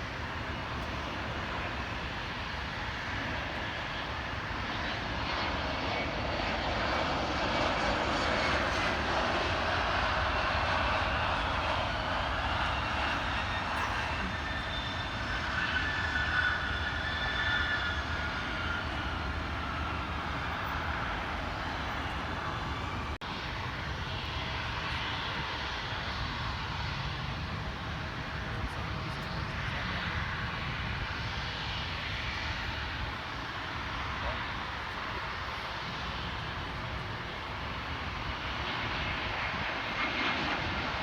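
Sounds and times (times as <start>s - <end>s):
jet engine rumble: 0.0s - 41.0s
jet engine whine: 0.0s - 41.0s.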